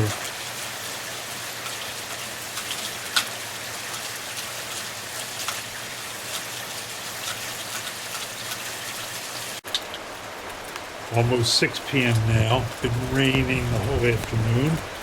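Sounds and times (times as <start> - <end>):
raindrops ticking close by: 0.0 - 15.0
steady rain hissing: 0.0 - 15.0.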